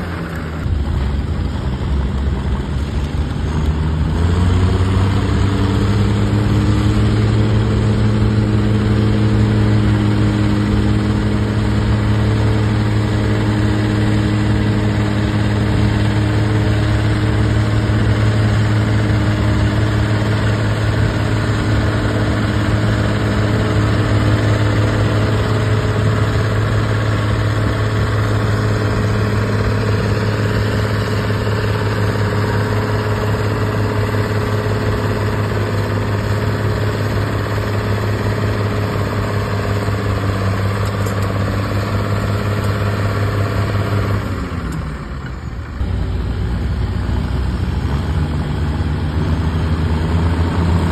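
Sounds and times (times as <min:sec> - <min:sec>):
tractor engine running under load: 0:00.0 - 0:50.9.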